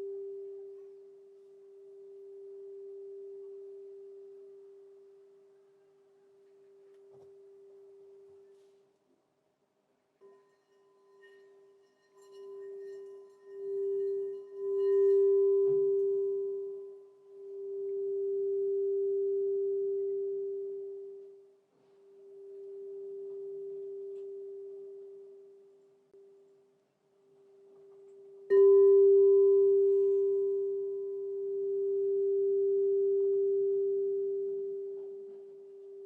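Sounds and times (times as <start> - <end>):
crystal singing bowl tone: 0.0 - 8.7, 10.2 - 26.7, 27.3 - 36.0.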